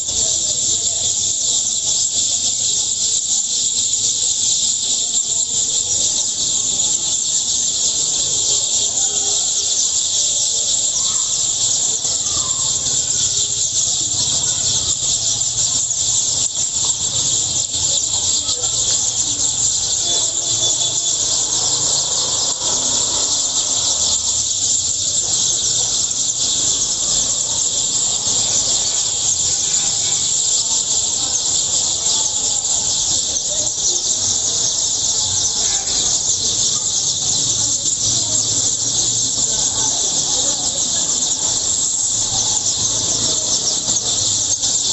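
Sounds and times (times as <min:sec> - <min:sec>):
flock of small birds chirping: 0:00.0 - 0:44.9.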